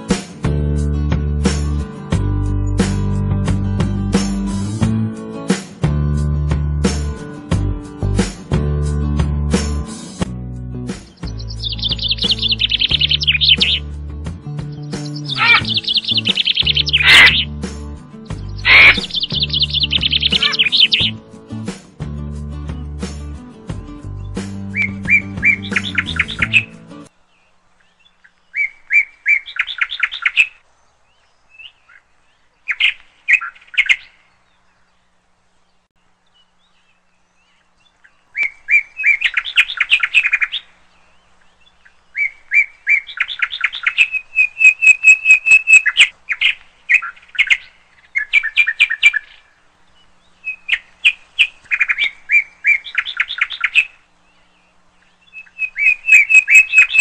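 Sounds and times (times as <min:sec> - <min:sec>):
songbird chirping in trills: 0:00.0 - 0:05.4, 0:06.1 - 0:57.0.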